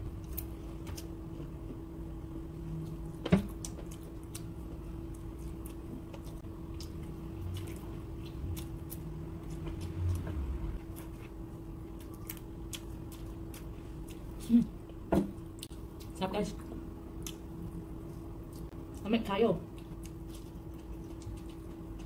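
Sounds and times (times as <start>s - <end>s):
low hum: 0.0s - 22.0s
person chewing food: 2.5s - 16.2s, 17.1s - 22.0s.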